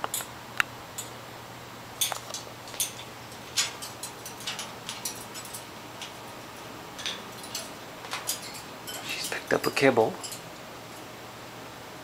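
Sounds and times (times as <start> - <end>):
beak and feet clicking on metal bars: 0.0 - 1.2, 2.0 - 11.2.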